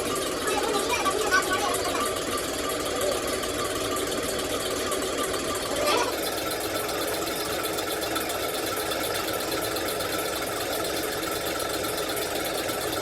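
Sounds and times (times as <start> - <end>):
machine running rhythmically: 0.0 - 13.0.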